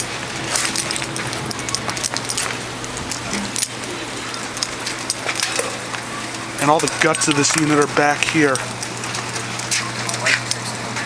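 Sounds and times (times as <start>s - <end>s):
rain pattering: 0.0s - 11.0s
sharp clicks and ticks: 0.0s - 11.0s
steady low hum: 0.0s - 11.0s.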